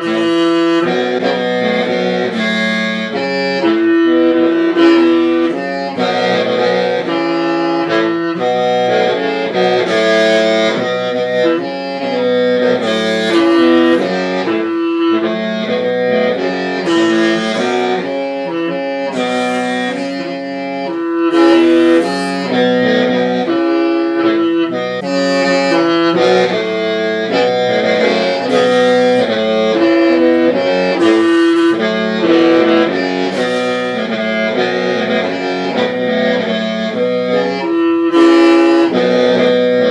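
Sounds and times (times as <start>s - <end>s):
mouth organ melody: 0.0s - 39.9s.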